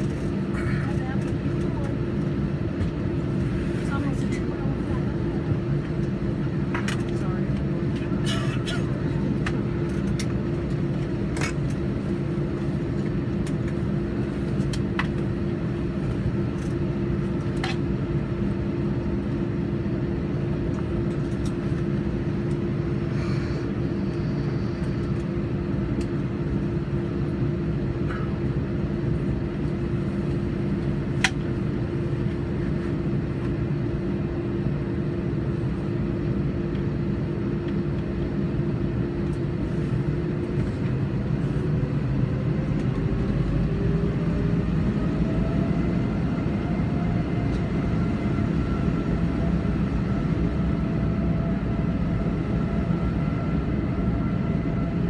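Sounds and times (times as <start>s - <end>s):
aircraft engines humming: 0.0s - 55.0s.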